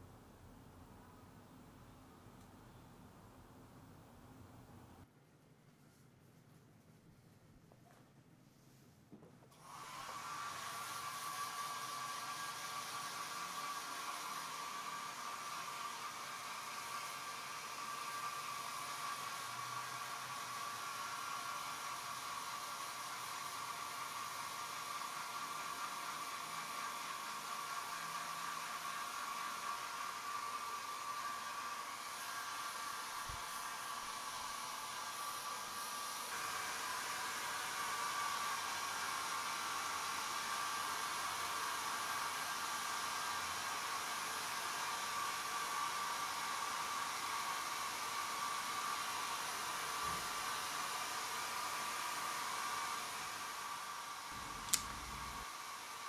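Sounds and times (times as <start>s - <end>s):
hair dryer running: 9.6s - 56.0s.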